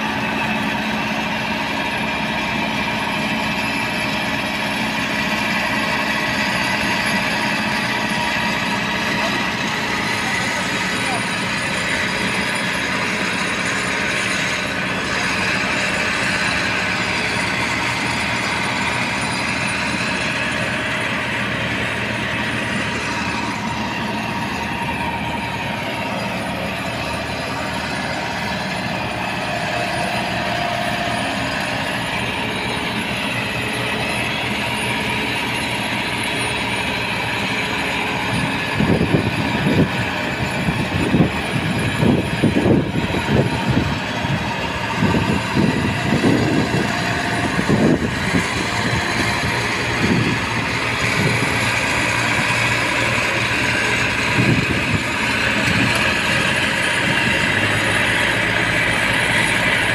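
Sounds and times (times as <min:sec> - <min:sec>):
combine harvester running: 0:00.0 - 0:59.9
loud uneven mechanical sounds: 0:00.0 - 0:59.9.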